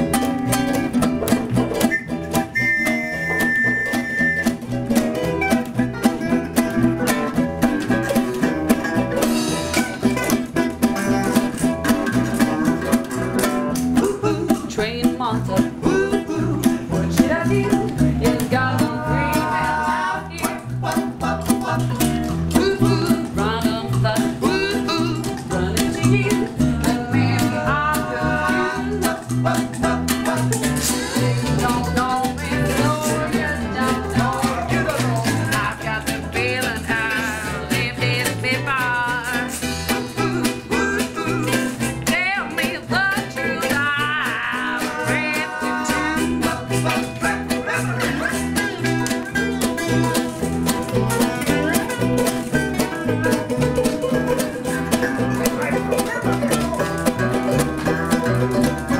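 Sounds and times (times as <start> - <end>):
banjo: 0.0 - 58.9
percussion: 0.0 - 58.9
strummed ukuleles: 0.0 - 58.9
upright bass: 0.0 - 58.9.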